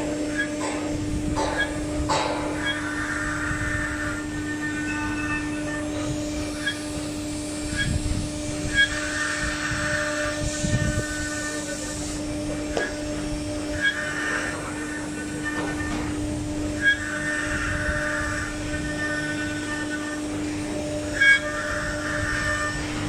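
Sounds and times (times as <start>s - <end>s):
higher cutting buzz: 0.0s - 23.0s
router spindle whine: 0.0s - 23.0s.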